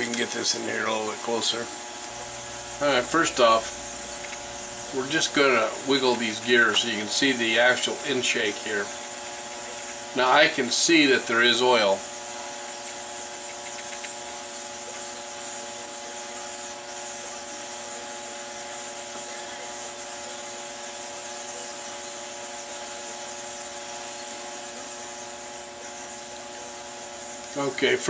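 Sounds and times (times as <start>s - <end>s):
high hiss: 0.0s - 28.0s
ultrasonic cleaner buzzing hum: 0.0s - 28.0s.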